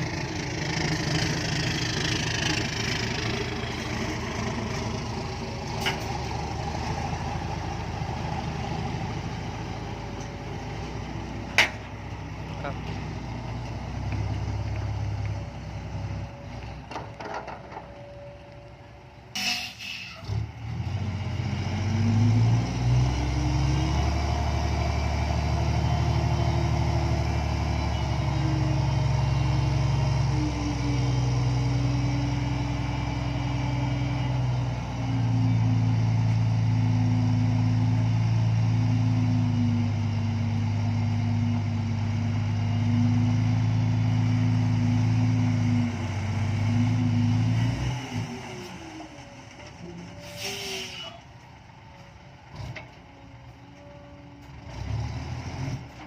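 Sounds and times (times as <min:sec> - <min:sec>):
diesel truck engine starting and running: 0:00.0 - 0:56.0.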